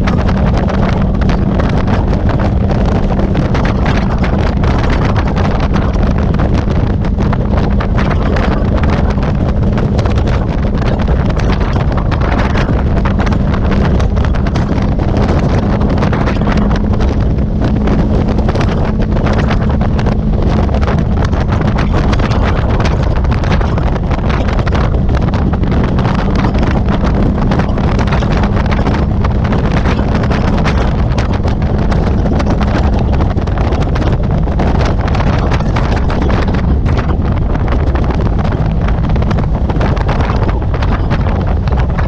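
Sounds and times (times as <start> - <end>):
motorcycle engine humming: 0.0 - 42.0
wind buffeting the microphone: 0.0 - 42.0.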